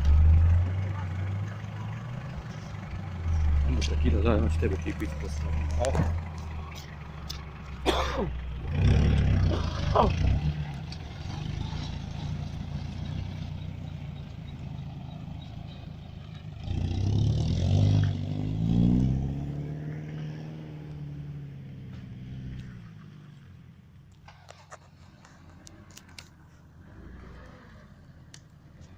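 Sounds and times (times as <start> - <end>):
engine running under load: 0.0 - 28.9.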